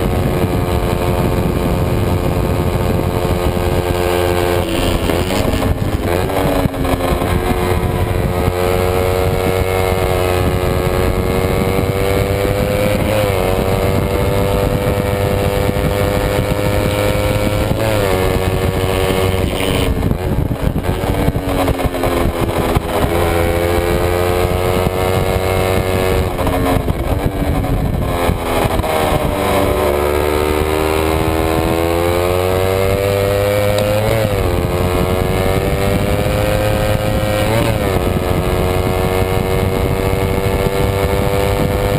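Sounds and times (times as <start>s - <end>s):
motorcycle engine at high revs: 0.0s - 41.9s
wind rush: 0.0s - 41.9s.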